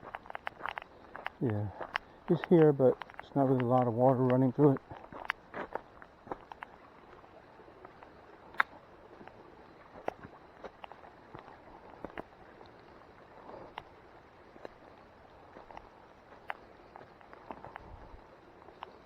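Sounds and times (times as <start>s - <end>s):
faint steady hiss: 0.0s - 19.0s
footsteps on wet trail: 0.0s - 19.0s.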